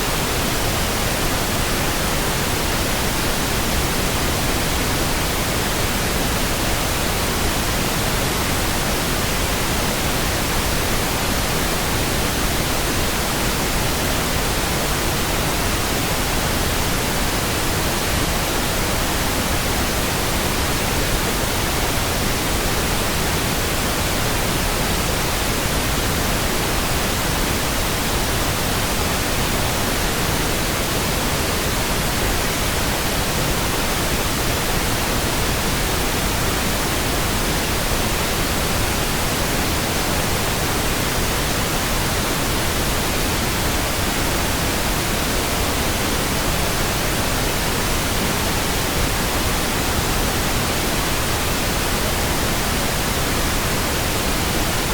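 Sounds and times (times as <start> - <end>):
pink noise hiss: 0.0 - 54.9.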